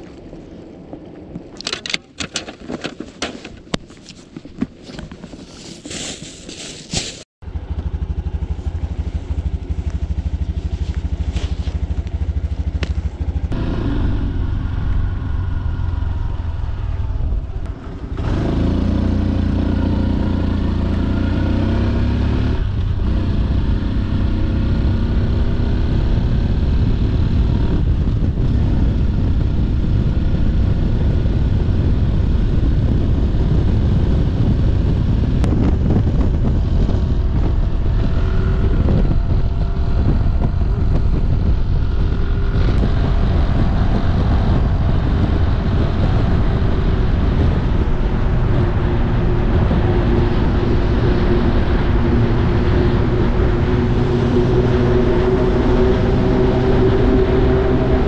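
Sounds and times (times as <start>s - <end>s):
motorcycle engine accelerating: 6.9s - 58.0s.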